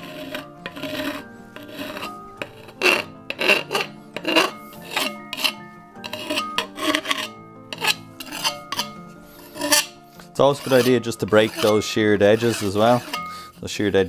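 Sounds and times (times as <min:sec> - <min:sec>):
hand file rasping on metal: 0:00.0 - 0:14.0.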